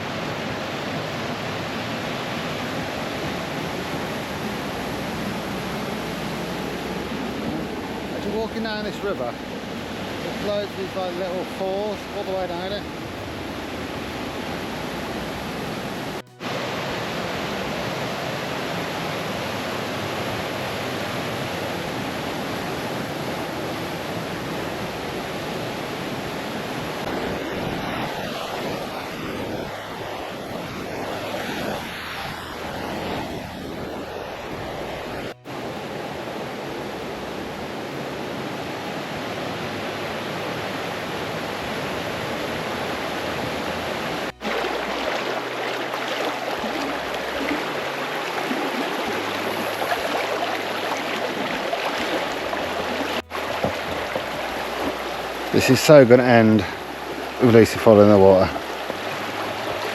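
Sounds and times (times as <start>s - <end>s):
river rushing over falls: 0.0s - 59.9s.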